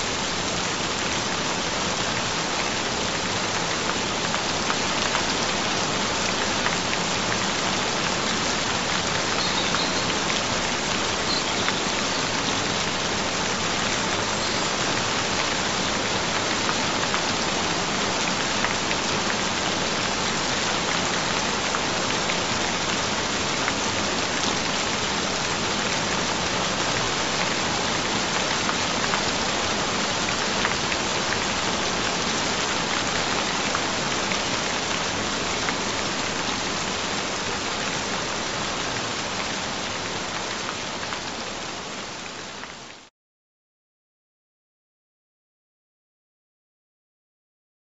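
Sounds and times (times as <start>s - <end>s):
steady rain falling: 0.0s - 43.1s.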